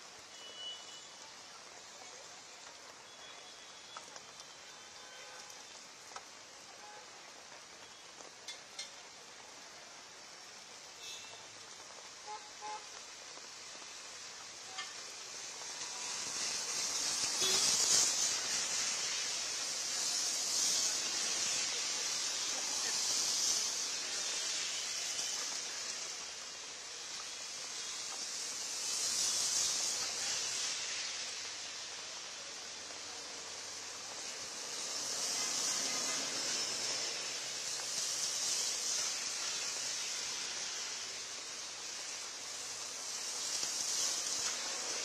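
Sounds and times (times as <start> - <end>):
heavy rain hissing: 0.0 - 45.0.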